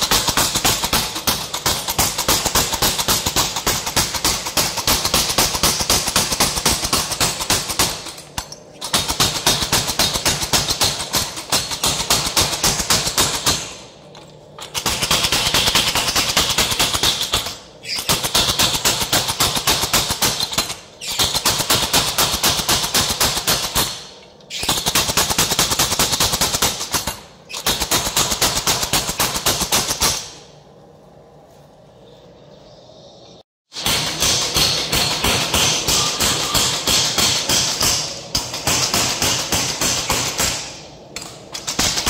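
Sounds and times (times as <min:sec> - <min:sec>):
power hammer pounding steel: 0:00.0 - 0:30.5, 0:33.7 - 0:42.0.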